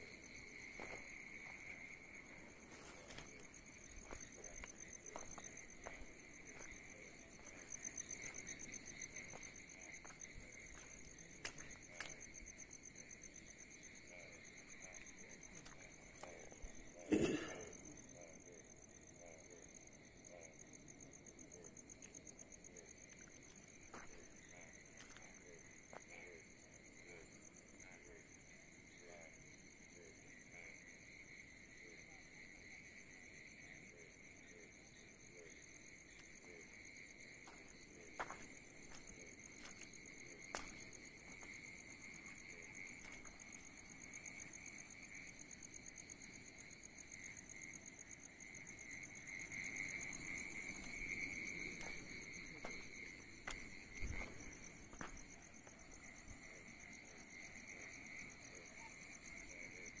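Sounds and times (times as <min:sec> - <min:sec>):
low continuous insect chirr: 0:00.0 - 1:00.0.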